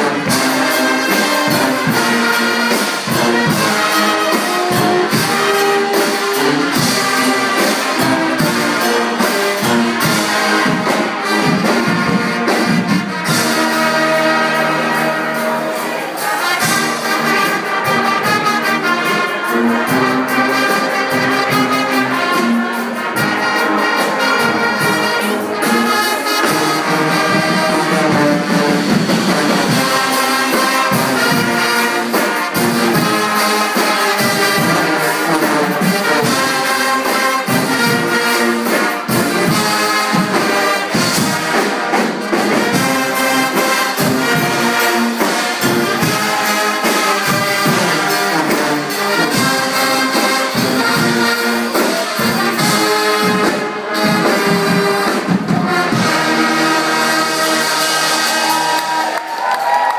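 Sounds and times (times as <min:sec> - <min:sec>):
brass band playing: 0:00.0 - 0:59.9
drums keeping steady beat: 0:00.0 - 0:59.9.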